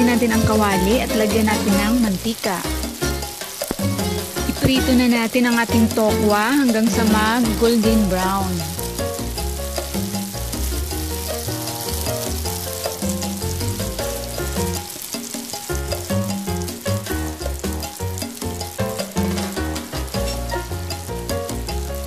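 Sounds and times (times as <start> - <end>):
background music with bass line: 0.0 - 22.0
tofu sizzling in hot oil: 0.0 - 22.0.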